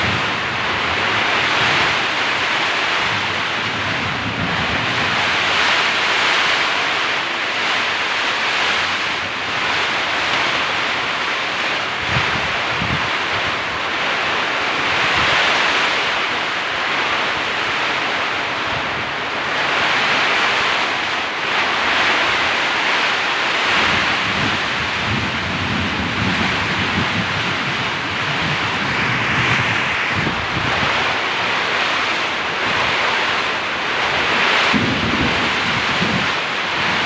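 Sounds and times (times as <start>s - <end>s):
wind buffeting microphone: 0.0s - 7.0s, 8.8s - 16.0s, 21.5s - 37.0s
heavy rain pouring: 0.0s - 37.0s.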